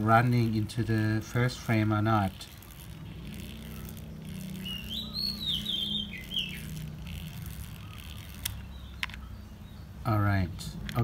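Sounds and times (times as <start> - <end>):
film winding crank clicks: 0.0 - 9.2
low hum: 0.0 - 10.0
bird chirping: 0.9 - 11.0.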